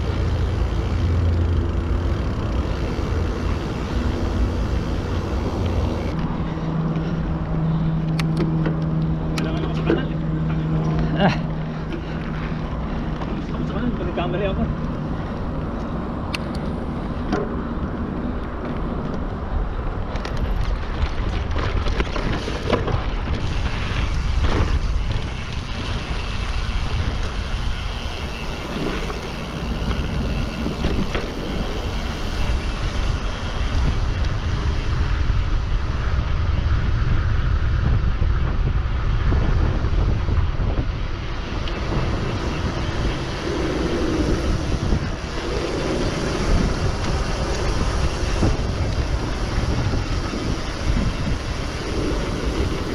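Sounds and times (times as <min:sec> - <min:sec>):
bike rolling on trail: 0:00.0 - 0:52.9
wind buffeting microphone: 0:00.0 - 0:52.9.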